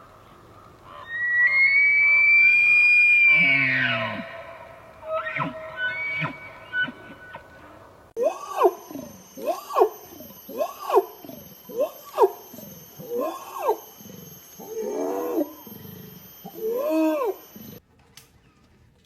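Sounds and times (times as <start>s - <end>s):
animal calling: 0.8s - 17.8s.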